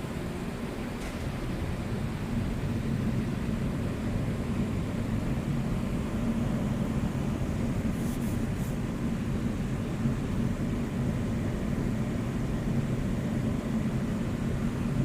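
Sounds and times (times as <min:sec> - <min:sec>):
car wash machinery rumbling: 0:00.0 - 0:15.0.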